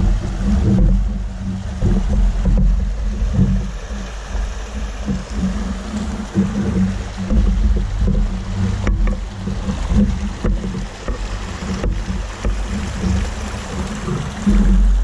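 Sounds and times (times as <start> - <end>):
creek rushing over stones: 0.0 - 15.0
microphone handling noise: 0.0 - 15.0
wind rumble: 0.0 - 15.0.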